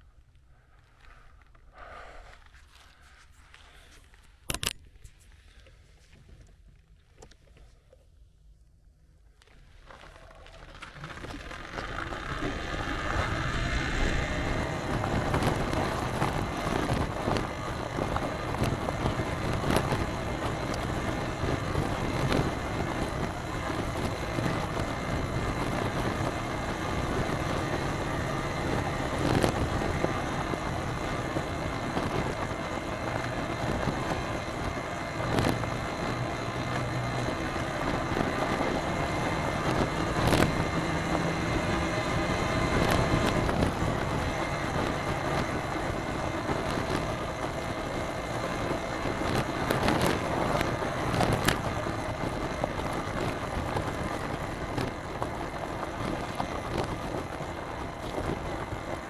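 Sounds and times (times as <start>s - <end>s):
road and tyre noise: 0.0s - 8.0s, 8.6s - 59.0s
low hum: 0.0s - 59.0s
wind rush: 11.6s - 59.0s.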